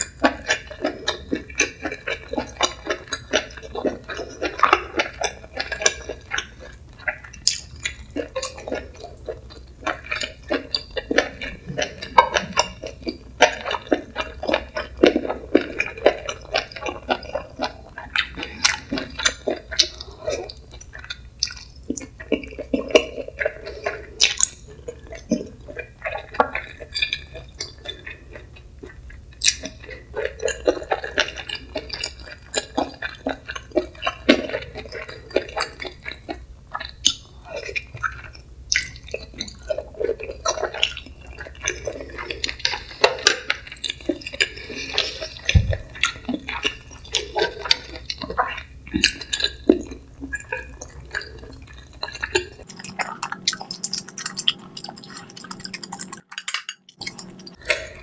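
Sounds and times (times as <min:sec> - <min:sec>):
wet chewing and lip smacking: 0:00.0 - 0:58.0.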